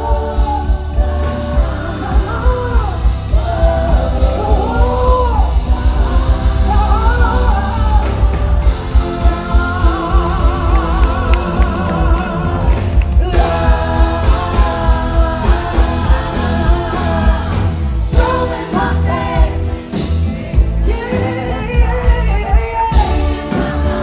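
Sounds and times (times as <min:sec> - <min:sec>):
woman singing: 0:00.0 - 0:19.8
drums: 0:00.0 - 0:24.0
heavy bass: 0:00.0 - 0:24.0.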